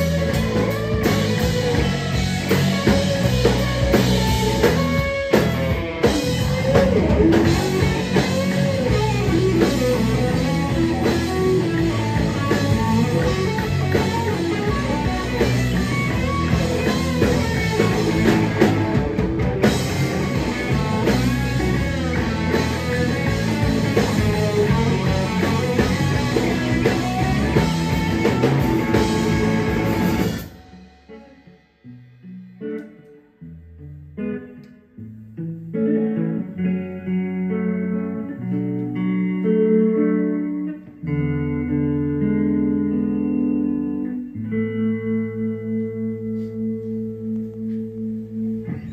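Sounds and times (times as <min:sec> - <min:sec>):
plucked guitar notes: 0:00.0 - 0:48.9
rock band playing: 0:00.0 - 0:48.9.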